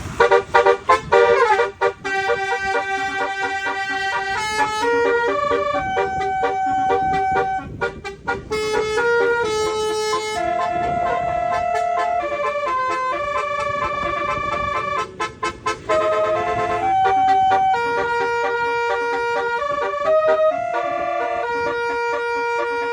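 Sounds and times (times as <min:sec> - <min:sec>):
musical air horn tune: 0:00.0 - 0:22.9.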